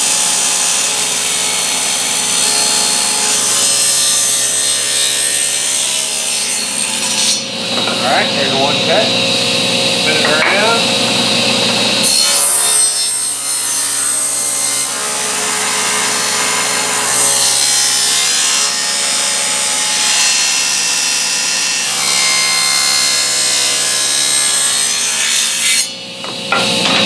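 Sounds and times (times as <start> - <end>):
table saw cutting wood: 0.0 - 27.0.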